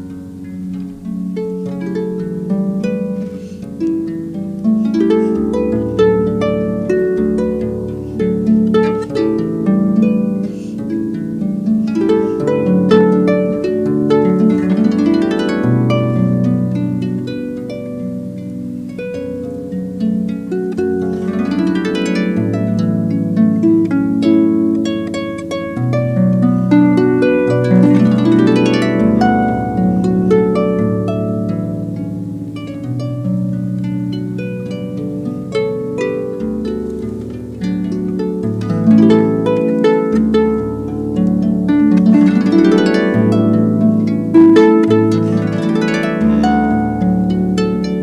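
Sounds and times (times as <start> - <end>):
harp playing: 0.0 - 48.0.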